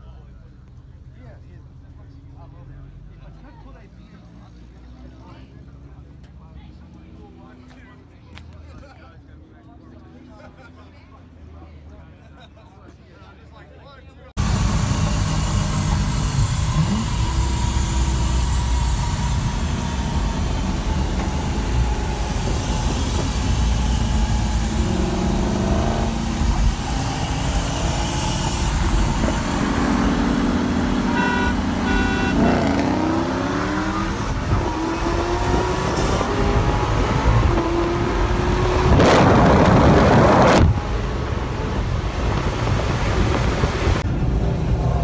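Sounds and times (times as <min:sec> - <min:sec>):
car engines idling and revving: 0:00.0 - 0:12.2, 0:14.3 - 0:45.0.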